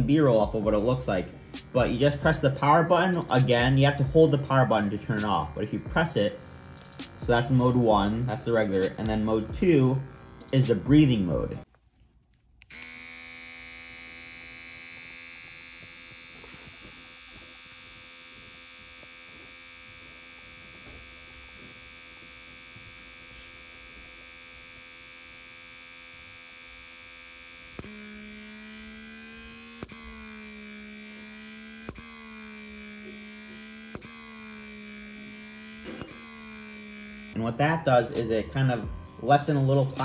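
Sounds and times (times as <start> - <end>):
electric suction pump humming: 0.0 - 11.8, 12.5 - 40.0.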